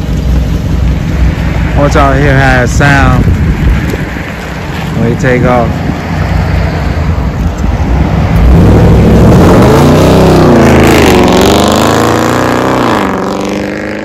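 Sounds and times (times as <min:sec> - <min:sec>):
car exhaust accelerating: 0:00.0 - 0:14.0.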